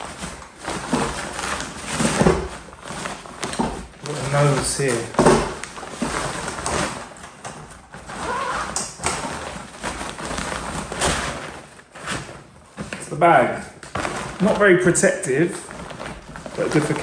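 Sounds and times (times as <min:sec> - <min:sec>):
fabric bag rustling and bumping: 0:00.0 - 0:17.0.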